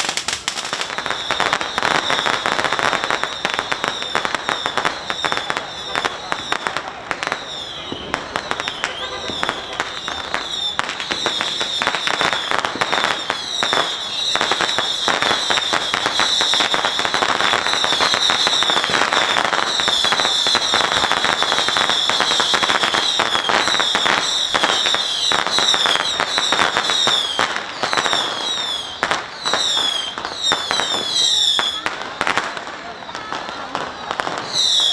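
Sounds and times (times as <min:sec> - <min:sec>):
firecrackers crackling: 0:00.0 - 0:34.9.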